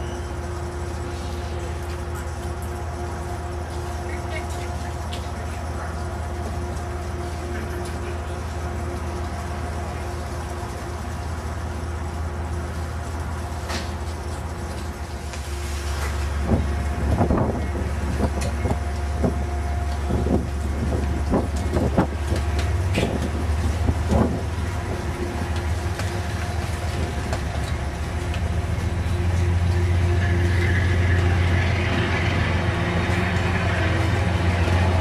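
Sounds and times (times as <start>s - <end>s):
train low drone: 0.0s - 35.0s.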